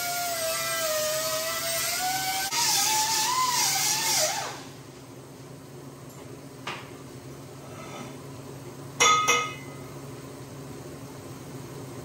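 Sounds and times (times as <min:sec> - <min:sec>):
welding arc whine and hiss: 0:00.0 - 0:12.0.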